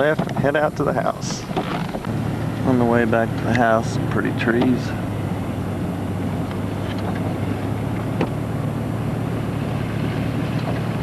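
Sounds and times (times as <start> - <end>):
minivan engine and road noise: 0.0 - 11.0.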